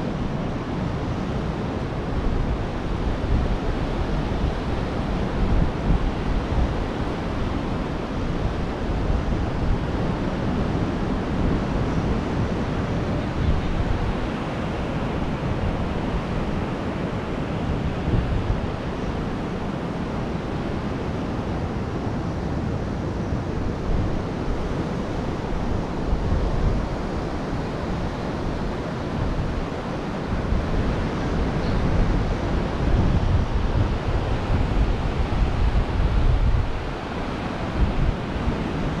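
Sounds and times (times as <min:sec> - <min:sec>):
ocean surf washing onto beach: 0:00.0 - 0:39.0
wind buffeting microphone: 0:00.0 - 0:39.0.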